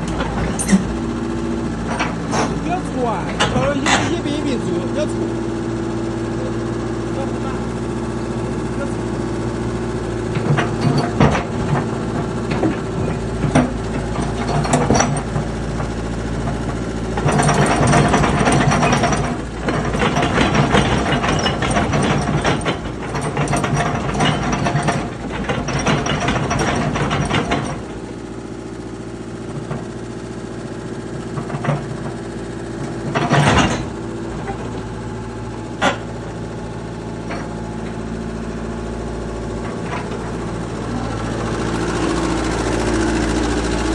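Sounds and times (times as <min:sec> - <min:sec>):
clanking and rattling: 0:00.0 - 0:05.3, 0:10.0 - 0:43.9
excavator diesel engine running: 0:00.0 - 0:43.9.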